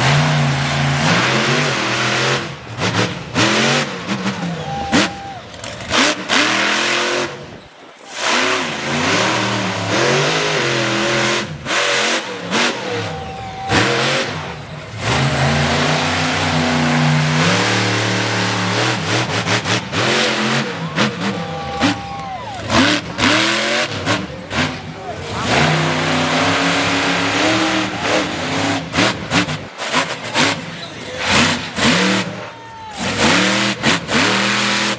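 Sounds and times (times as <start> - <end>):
monster truck engine revving: 0.0 - 34.9.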